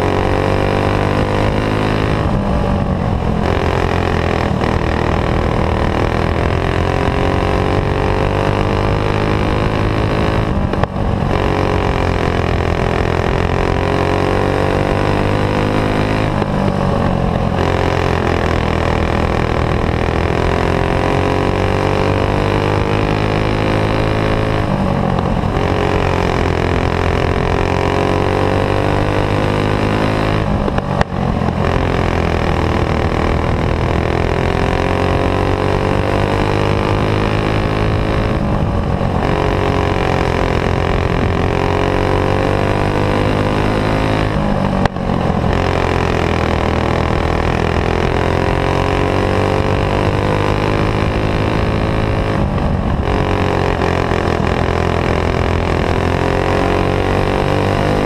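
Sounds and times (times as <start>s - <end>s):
kart engine at high revs: 0.0s - 58.0s.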